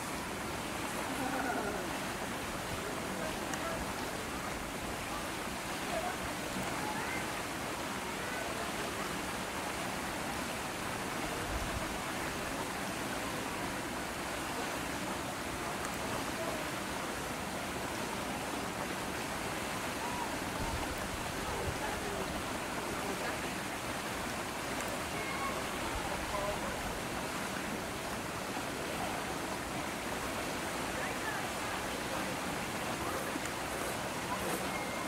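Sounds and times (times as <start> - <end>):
outdoor background hiss: 0.0 - 35.0.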